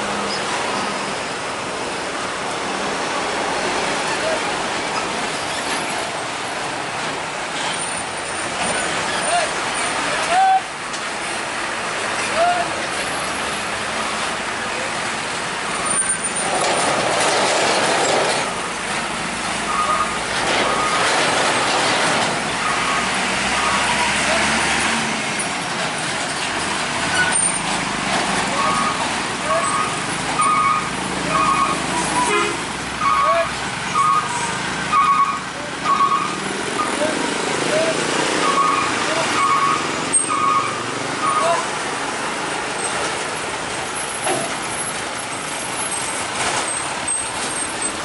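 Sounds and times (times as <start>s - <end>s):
heavy trucks driving past: 0.0s - 48.0s
road traffic passing: 0.0s - 48.0s.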